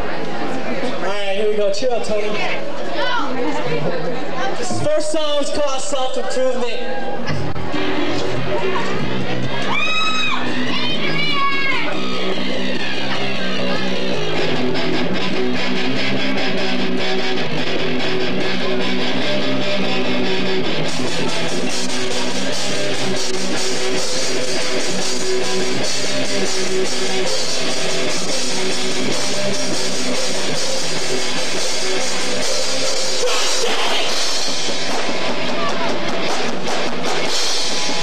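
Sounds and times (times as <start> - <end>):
electric guitar: 7.2 - 38.0
live rock band playing: 7.5 - 38.0.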